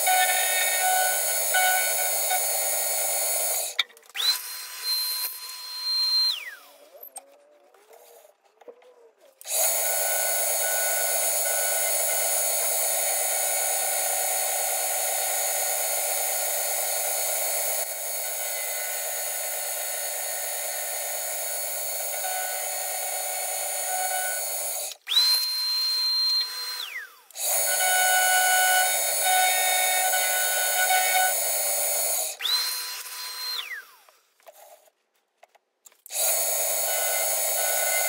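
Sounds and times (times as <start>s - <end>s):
milling machine cutting metal: 0.0s - 6.5s, 9.4s - 25.0s, 26.1s - 33.8s, 36.1s - 38.0s.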